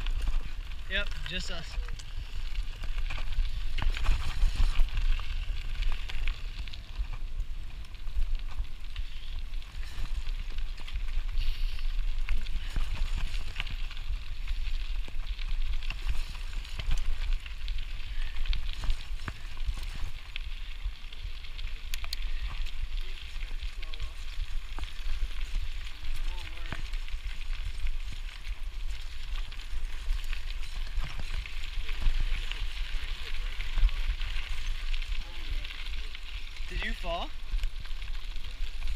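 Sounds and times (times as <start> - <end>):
bike tyres crunching on gravel: 0.0 - 38.9
wind rumble on microphone: 0.0 - 38.9.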